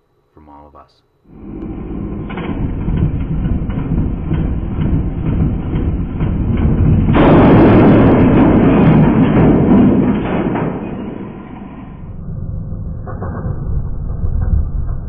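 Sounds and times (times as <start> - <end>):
electric motor rattling rumble: 1.3 - 15.0.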